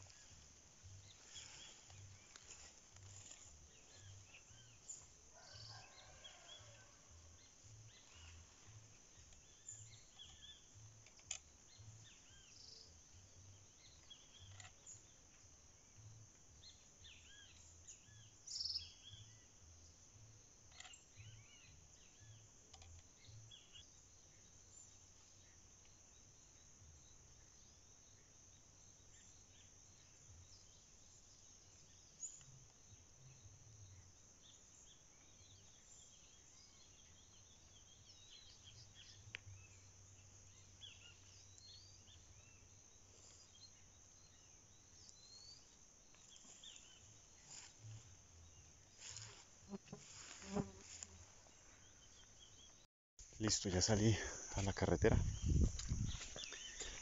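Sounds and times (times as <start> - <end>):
insect hum: 0.0 - 57.0.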